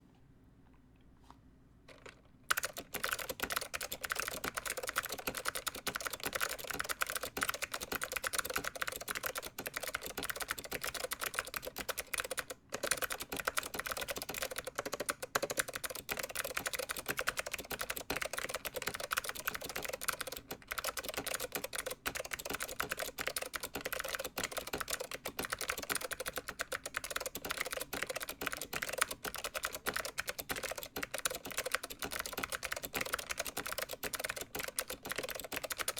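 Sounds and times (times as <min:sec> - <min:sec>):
clicky keyboard typing: 0:01.9 - 0:35.9.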